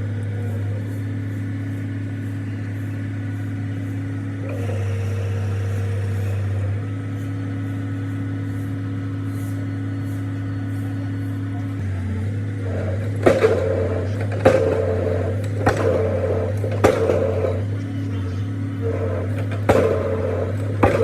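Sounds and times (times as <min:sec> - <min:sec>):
heavy machine engine humming: 0:00.0 - 0:21.0.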